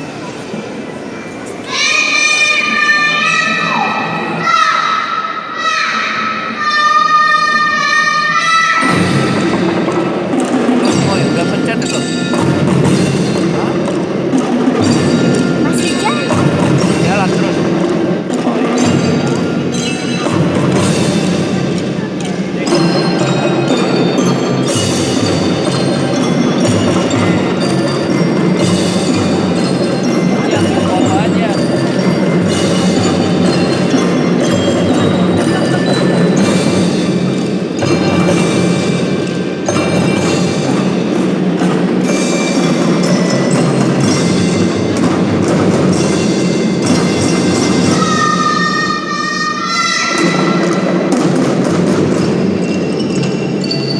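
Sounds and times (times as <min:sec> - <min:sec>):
drums and percussion: 0:00.0 - 0:53.9
bell-like mallet notes: 0:08.8 - 0:49.0, 0:50.1 - 0:53.9
glockenspiel melody: 0:09.3 - 0:49.0, 0:50.2 - 0:53.9.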